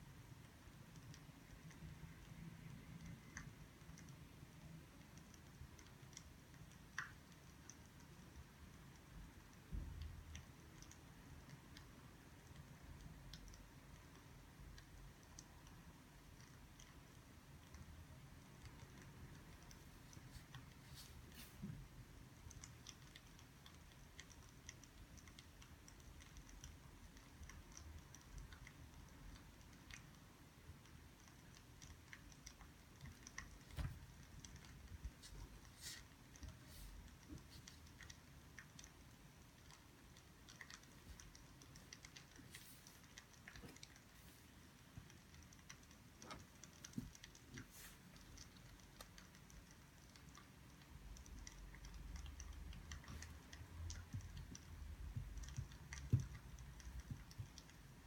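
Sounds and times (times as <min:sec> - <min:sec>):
low steady hum: 0:00.0 - 0:58.0
small clicks and ticks: 0:00.0 - 0:58.0.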